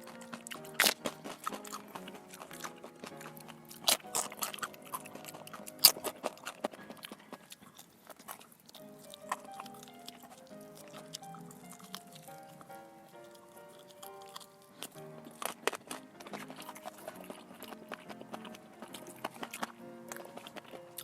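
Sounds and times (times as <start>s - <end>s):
person chewing crunchy food: 0.0s - 21.0s
soft background music: 0.0s - 21.0s.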